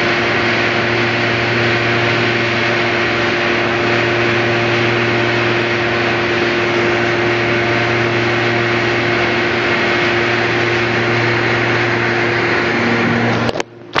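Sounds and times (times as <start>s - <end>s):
dryer machine running: 0.0s - 14.0s.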